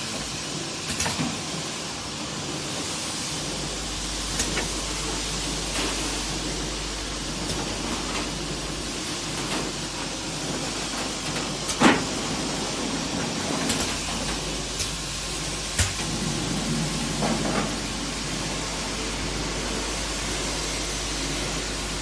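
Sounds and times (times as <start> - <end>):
conveyor rushing noise: 0.0 - 22.0.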